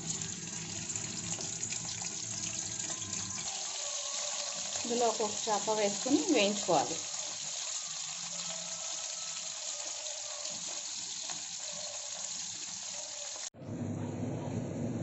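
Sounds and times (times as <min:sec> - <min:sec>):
fish sizzling in hot oil: 0:00.0 - 0:13.5.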